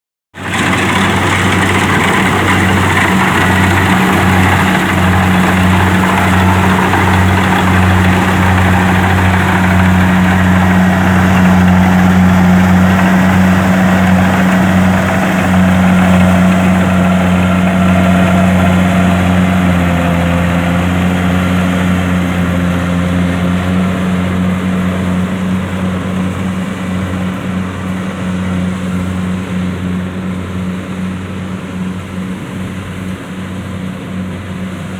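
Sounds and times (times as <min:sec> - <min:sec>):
combine harvester running: 0:00.4 - 0:34.9.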